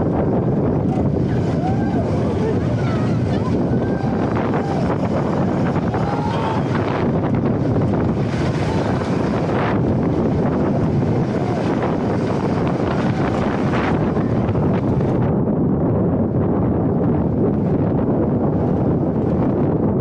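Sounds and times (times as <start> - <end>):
roller coaster wheels rumbling: 0.0 - 20.0
wind rushing across microphone: 0.0 - 20.0.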